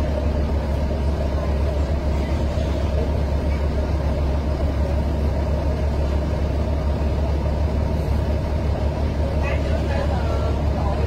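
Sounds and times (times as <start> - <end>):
diesel train engine idling: 0.0 - 11.0.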